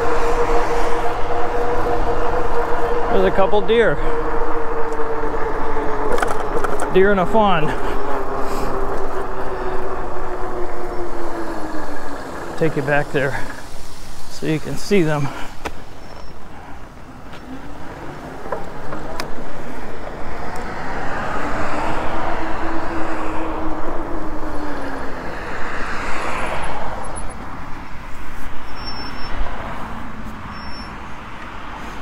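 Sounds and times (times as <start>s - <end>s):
wind rushing: 0.0s - 17.0s, 17.6s - 28.8s
low hum: 0.0s - 27.6s
tyres on pavement: 0.0s - 32.0s.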